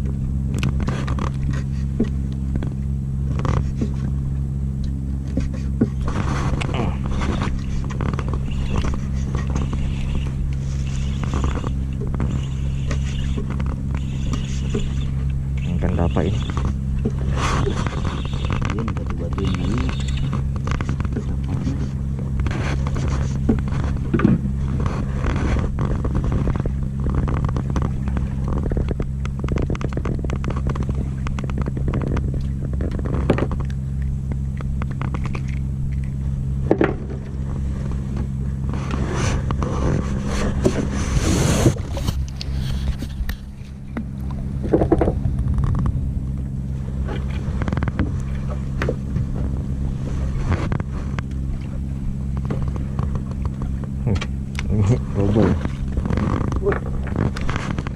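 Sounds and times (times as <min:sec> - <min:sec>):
boat engine running: 0:00.0 - 0:57.9
knocks and scrapes: 0:00.6 - 0:02.7, 0:03.3 - 0:04.2, 0:05.2 - 0:46.1, 0:46.9 - 0:57.9.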